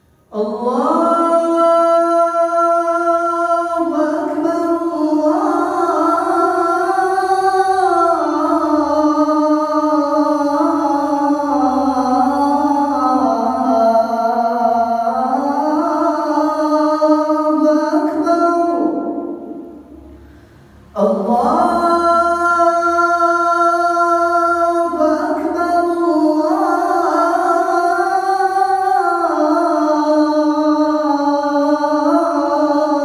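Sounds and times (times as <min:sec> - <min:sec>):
man singing call to prayer: 0:00.3 - 0:19.9, 0:20.9 - 0:33.0.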